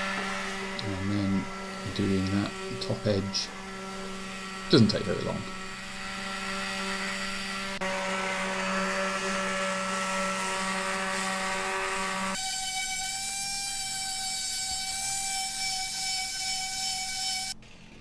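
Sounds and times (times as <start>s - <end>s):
orbital sander whining: 0.0s - 18.0s.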